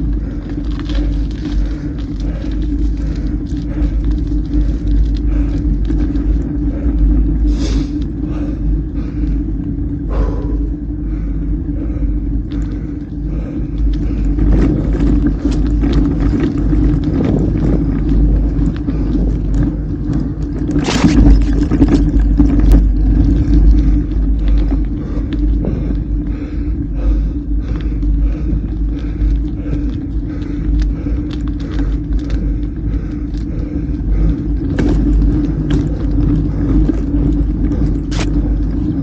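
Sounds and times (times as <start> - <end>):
bike rattles and clicks: 0.0 - 39.0
bike tyre noise: 0.0 - 39.0
wind on microphone: 0.0 - 39.0.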